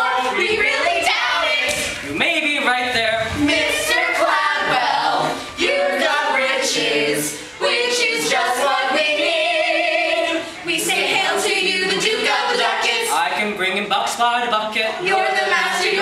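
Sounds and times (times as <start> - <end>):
group of people singing: 0.0 - 16.0.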